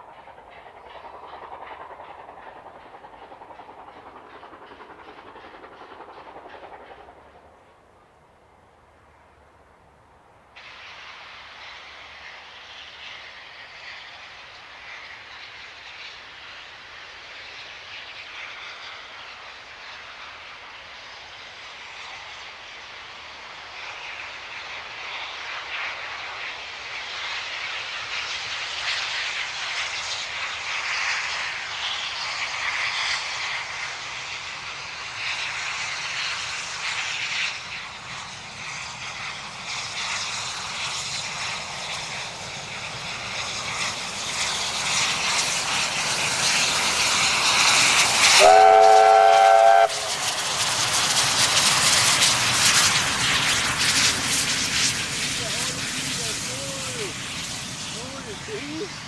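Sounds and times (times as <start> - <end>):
steam locomotive exhaust: 0.0 - 8.2, 10.6 - 59.0.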